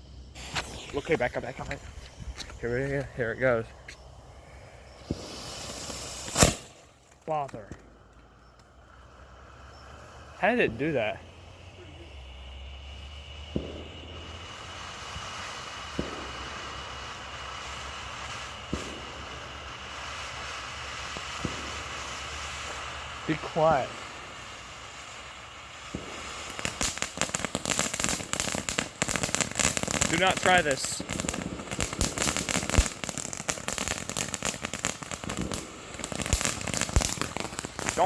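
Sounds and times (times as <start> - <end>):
steady hissing rumble: 0.0 - 38.0
firework pops: 0.3 - 38.0.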